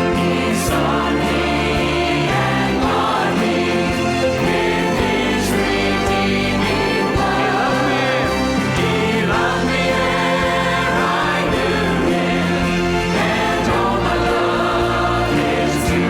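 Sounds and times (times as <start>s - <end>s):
choir singing a hymn: 0.0s - 16.0s
instrumental accompaniment: 0.0s - 16.0s.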